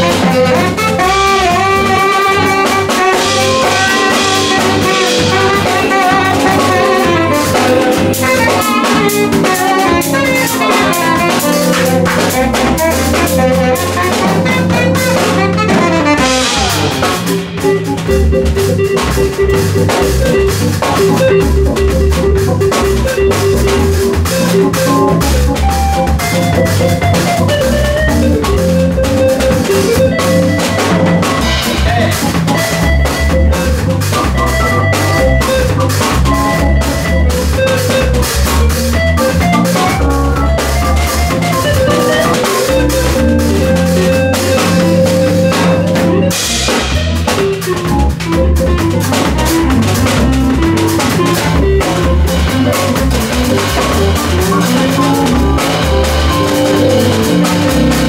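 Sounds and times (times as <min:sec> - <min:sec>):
drum kit: 0:00.0 - 0:58.0
electric guitar: 0:00.0 - 0:58.0
keyboard: 0:00.0 - 0:58.0
saxophone melody: 0:00.0 - 0:58.0.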